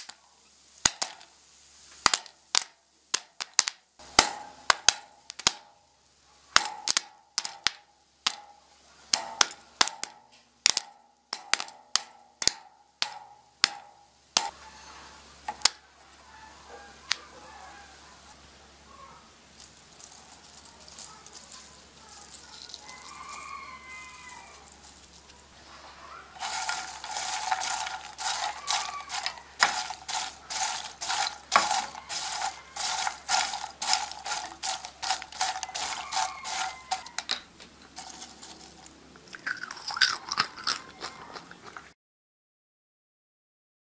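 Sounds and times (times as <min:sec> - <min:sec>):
popcorn stirred in a frying pan: 0:00.0 - 0:15.8, 0:19.3 - 0:41.8.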